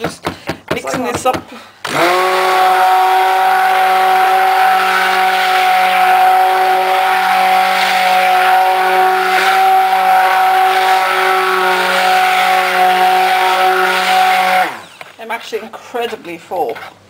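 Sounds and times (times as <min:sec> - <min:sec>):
stick blender motor whine: 0:00.9 - 0:15.6.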